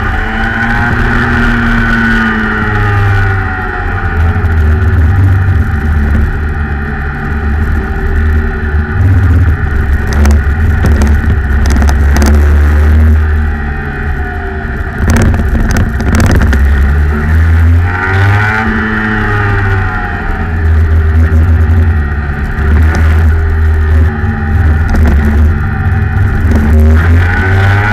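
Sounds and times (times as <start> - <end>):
kart engine revving: 0.0 - 27.9.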